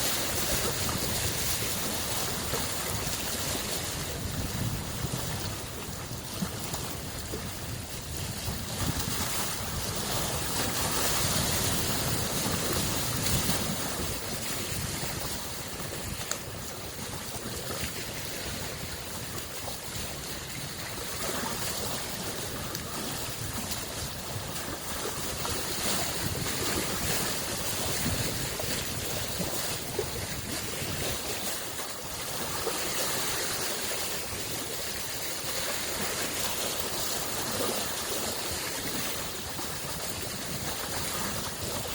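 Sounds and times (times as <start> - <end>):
small waves washing onto shore: 0.0 - 41.9.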